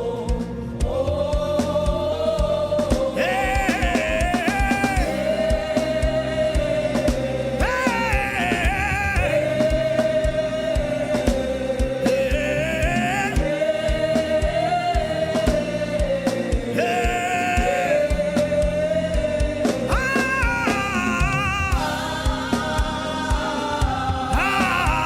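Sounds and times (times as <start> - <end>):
steady low beat: 0.0 - 25.0.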